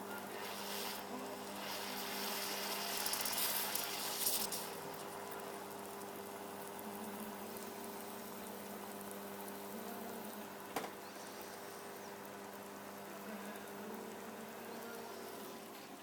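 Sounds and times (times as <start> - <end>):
water boiling: 0.0 - 16.0.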